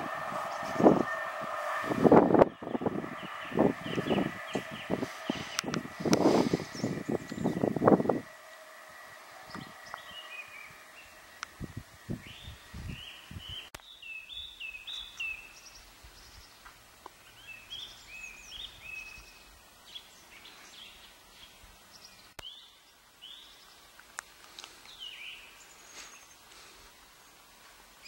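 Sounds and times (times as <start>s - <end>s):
songbirds chirping: 0.0s - 28.0s
faint outdoor hiss: 4.8s - 28.0s.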